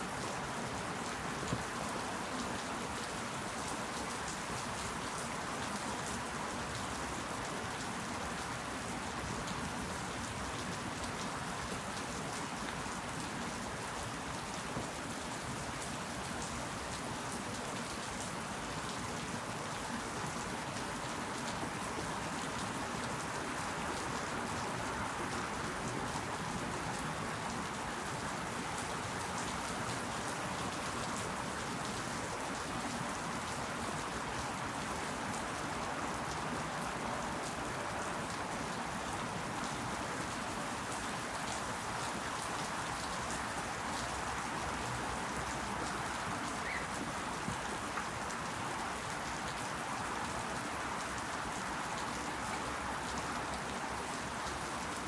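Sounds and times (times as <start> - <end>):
raindrops pattering on leaves: 0.0 - 55.0
steady rain falling: 0.0 - 55.0.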